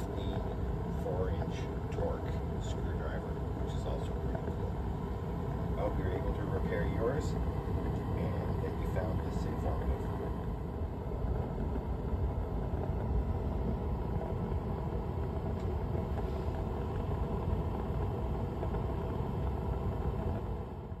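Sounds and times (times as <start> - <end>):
propane heater burner and blower rumbling: 0.0 - 21.0.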